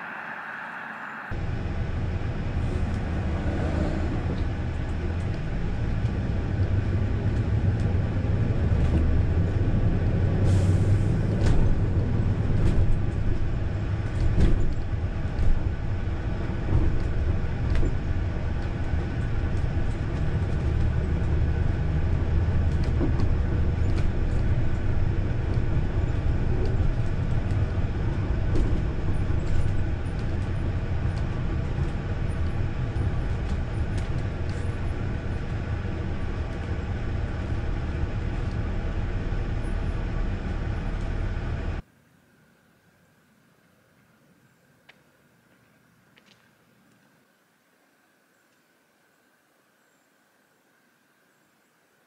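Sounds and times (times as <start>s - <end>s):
diesel engine drone: 0.0s - 41.8s
road noise: 0.0s - 51.2s.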